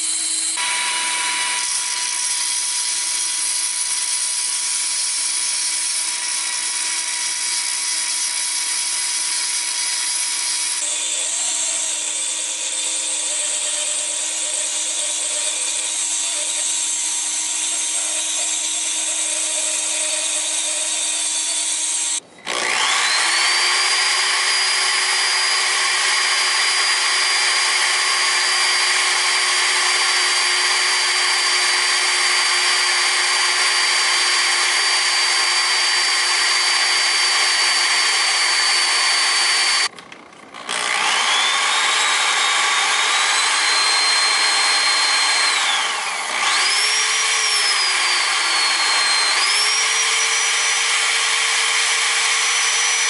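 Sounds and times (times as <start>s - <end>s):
electric drill running: 0.0s - 39.9s, 40.6s - 53.0s.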